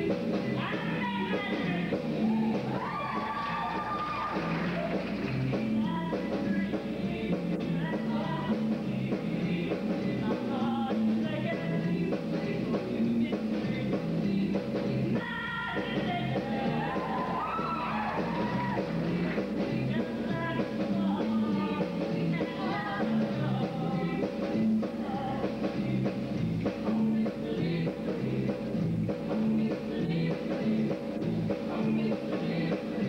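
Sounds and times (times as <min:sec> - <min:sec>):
bass line: 0:00.0 - 0:33.0
choir singing rock and roll: 0:00.0 - 0:33.0
drums: 0:00.0 - 0:33.0.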